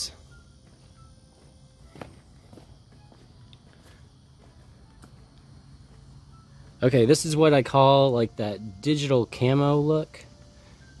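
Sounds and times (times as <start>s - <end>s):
faint footsteps on garden ground: 0.0s - 10.4s.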